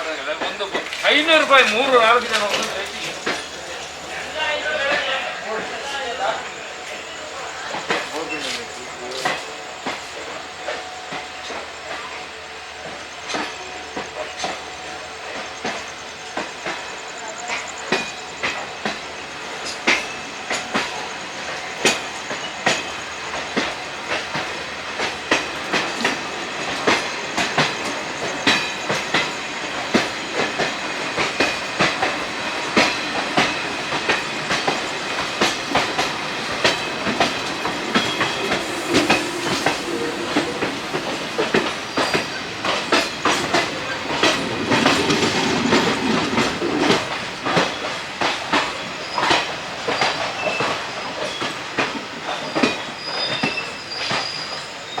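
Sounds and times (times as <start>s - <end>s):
train running rumble: 0.0s - 55.0s
train wheels clattering over joints: 0.0s - 55.0s.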